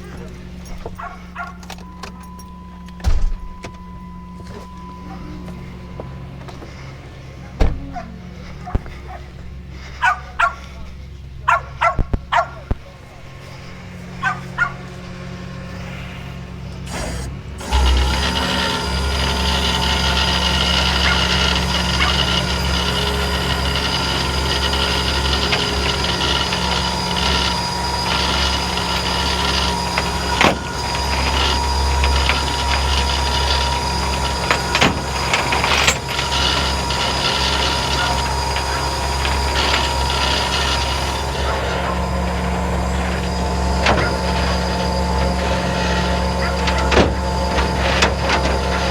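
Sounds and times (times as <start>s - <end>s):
truck engine running with whine: 0.0s - 48.9s.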